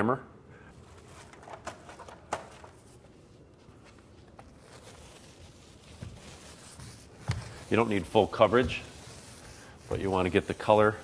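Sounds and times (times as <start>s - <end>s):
soft rustling and scraping: 0.8s - 11.0s.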